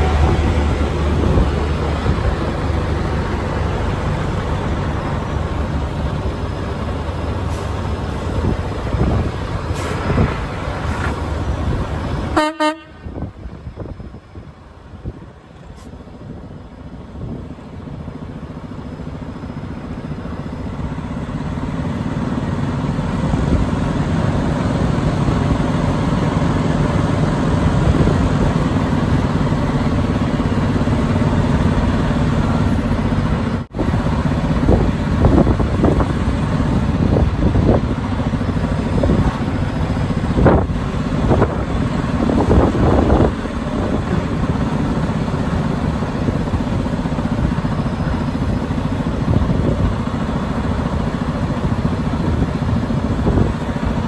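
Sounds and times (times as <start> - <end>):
diesel truck engine rumble: 0.0 - 54.0.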